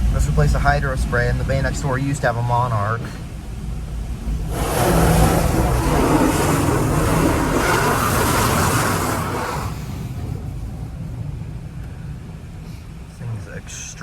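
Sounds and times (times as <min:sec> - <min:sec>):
water spray hissing on car: 0:00.0 - 0:11.2
car wash machinery rumble: 0:00.0 - 0:14.0.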